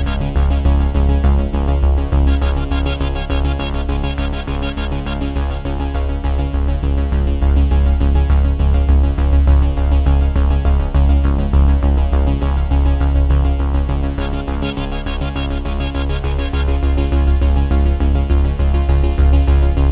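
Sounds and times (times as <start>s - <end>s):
electronic music with synthesizer: 0.0s - 19.9s
heavy bass: 0.0s - 19.9s.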